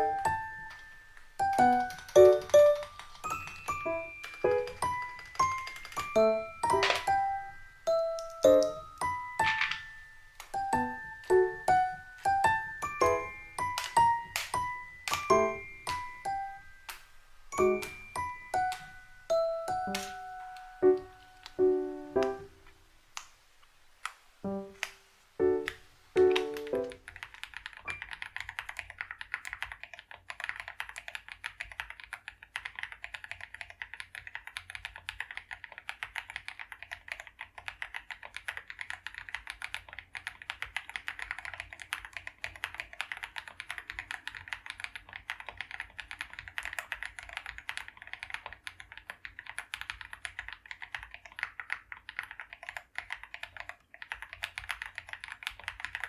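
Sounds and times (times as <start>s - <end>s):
fast typing on mechanical keyboard: 0.0s - 16.9s, 17.5s - 21.6s, 25.6s - 56.0s.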